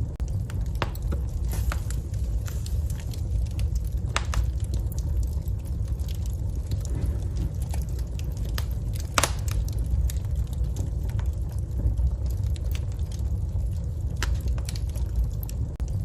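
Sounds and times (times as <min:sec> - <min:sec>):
fire burning in a fireplace: 0:00.0 - 0:16.0
fire crackling and popping: 0:00.0 - 0:16.0.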